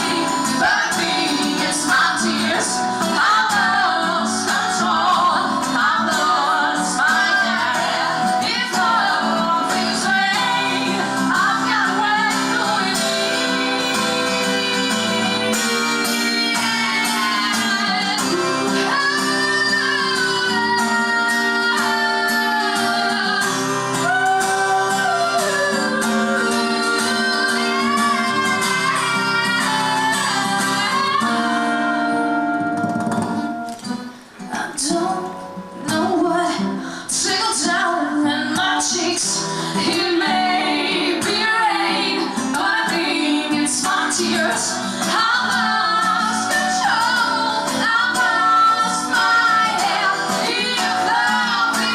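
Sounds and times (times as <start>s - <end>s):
woman singing: 0.0s - 32.6s, 34.4s - 51.9s
strummed guitar: 0.0s - 51.9s.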